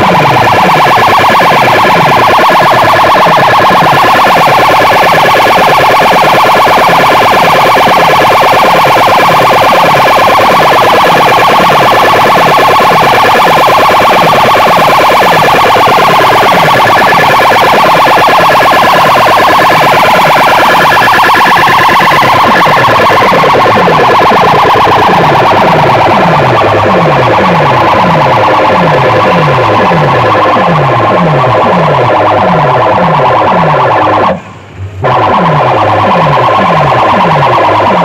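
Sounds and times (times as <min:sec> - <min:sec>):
distorted electronic siren sound: 0:00.0 - 0:38.0.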